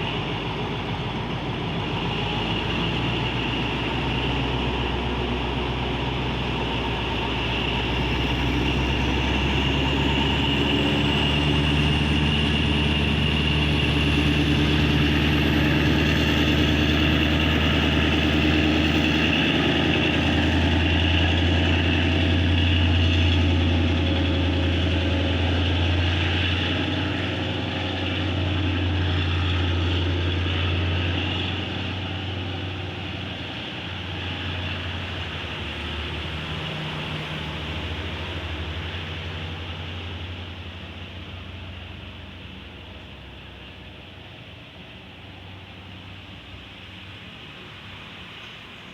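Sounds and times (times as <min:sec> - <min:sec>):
locomotive engine drone: 0:00.0 - 0:48.9.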